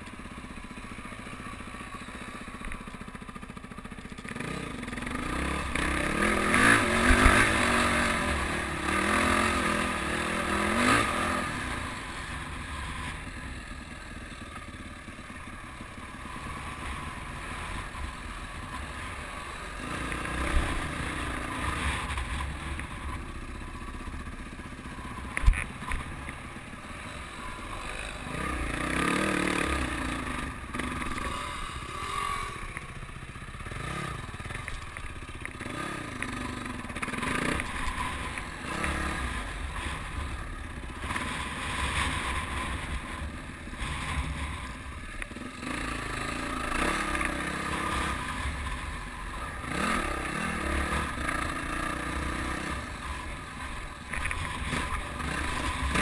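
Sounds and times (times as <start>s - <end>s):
dirt bike engine revving: 4.2s - 56.0s.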